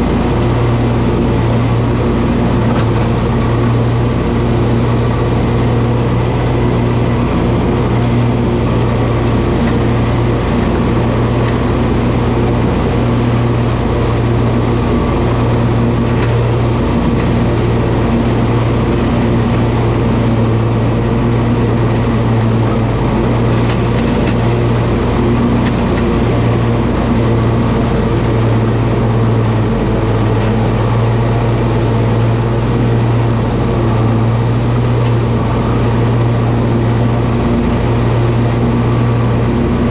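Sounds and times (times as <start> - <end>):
riding mower engine humming: 0.0 - 39.9.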